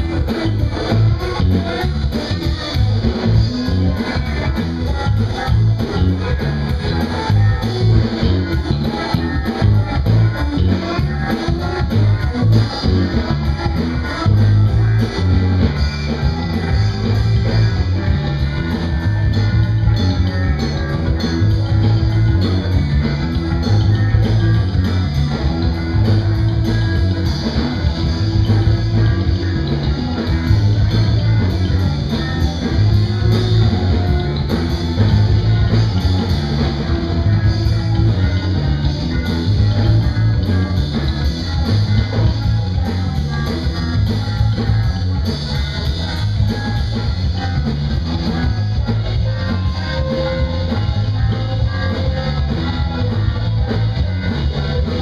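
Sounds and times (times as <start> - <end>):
drum kit cymbal beat: 0.0 - 55.0
electric bass guitar: 0.0 - 55.0
keyboard: 0.0 - 55.0.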